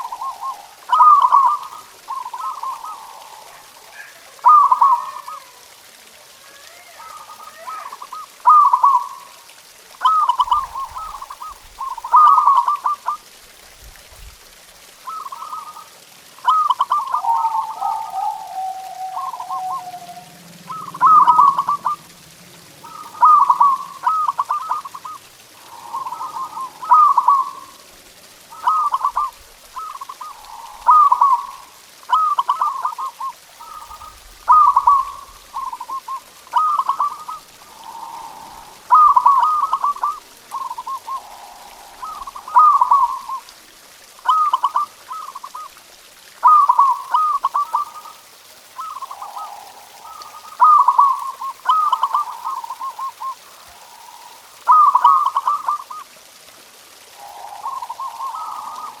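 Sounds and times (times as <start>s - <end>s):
dove cooing: 0.0s - 13.3s, 15.0s - 45.7s, 46.4s - 56.1s, 56.9s - 59.0s.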